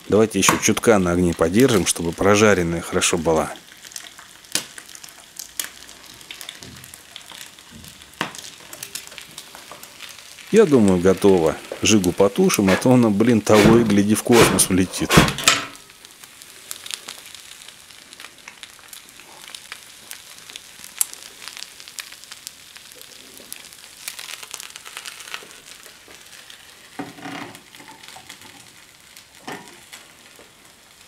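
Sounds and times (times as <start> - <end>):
eggs sizzling in oil: 0.0 - 31.0.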